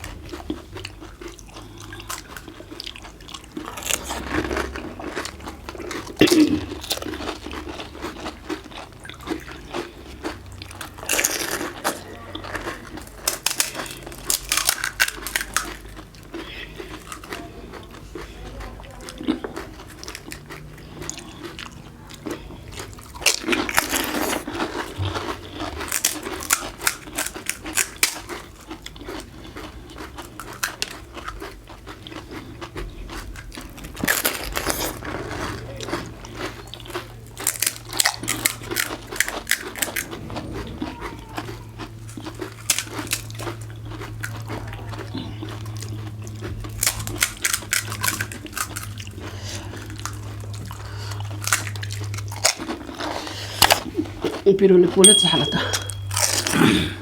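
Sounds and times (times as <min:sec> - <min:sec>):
crisp shells crunching: 0:00.9 - 0:18.3, 0:22.3 - 0:54.3.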